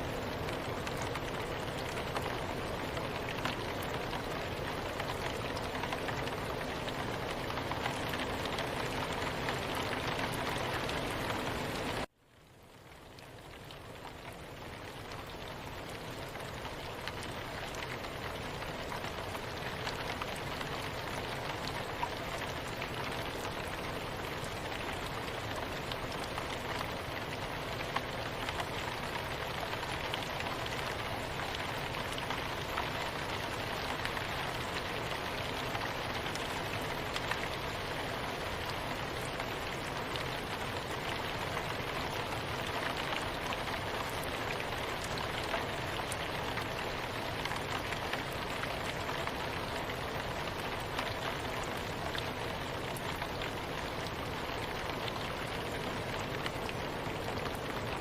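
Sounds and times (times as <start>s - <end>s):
rain drop ticks: 0.0s - 12.1s, 12.7s - 58.0s
soft rain falling: 0.0s - 58.0s.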